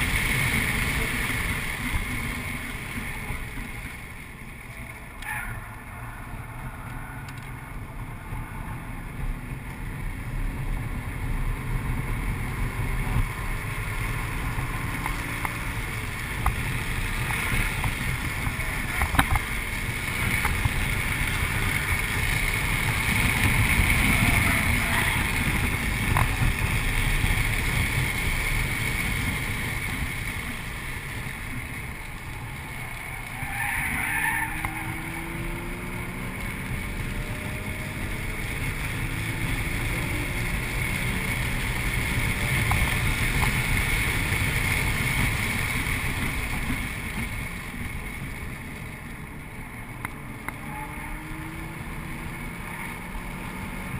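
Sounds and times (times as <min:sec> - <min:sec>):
car engine running hard: 0:00.0 - 0:53.9
road noise: 0:00.0 - 0:53.9.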